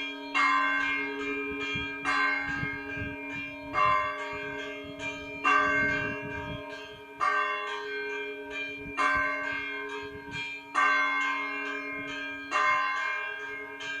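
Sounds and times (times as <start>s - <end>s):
church bell ringing: 0.0s - 14.0s.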